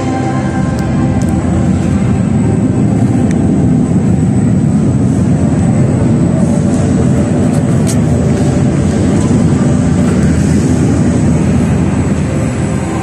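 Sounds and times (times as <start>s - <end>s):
faint high whine: 0.0s - 13.0s
low rumbling drone: 0.0s - 13.0s.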